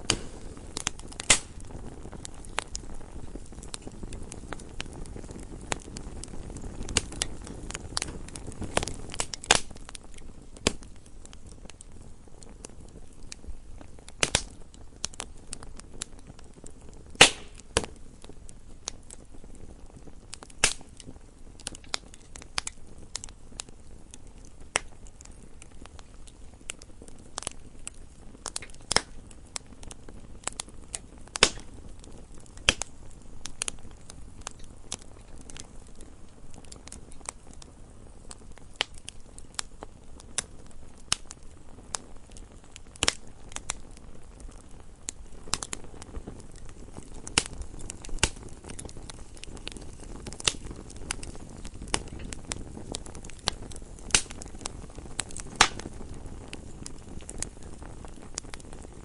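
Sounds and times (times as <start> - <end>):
hiss of flames: 0.0 - 59.0
logs crackling and popping: 0.0 - 59.0.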